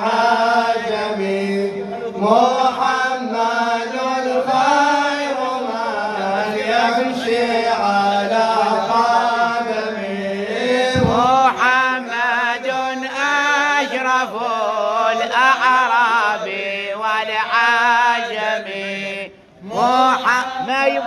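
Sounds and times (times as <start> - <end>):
men chanting a praise song: 0.0 - 21.0.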